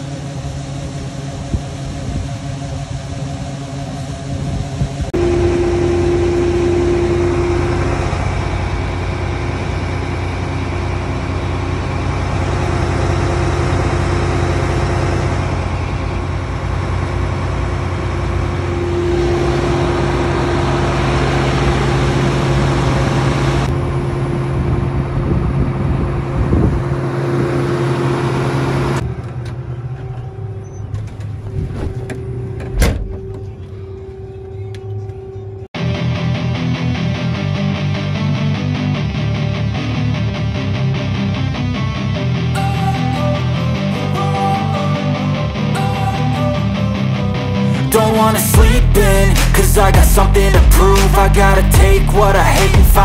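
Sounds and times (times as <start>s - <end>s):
combine diesel engine running: 0.0s - 35.8s, 36.5s - 53.0s.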